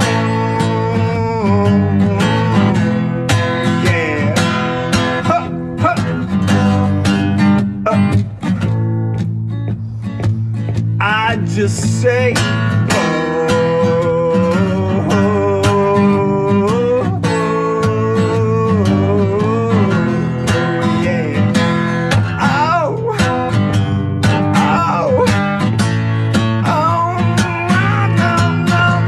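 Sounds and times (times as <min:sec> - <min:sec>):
man singing: 0:00.0 - 0:08.8, 0:10.8 - 0:29.0
acoustic guitar strummed: 0:00.0 - 0:29.0.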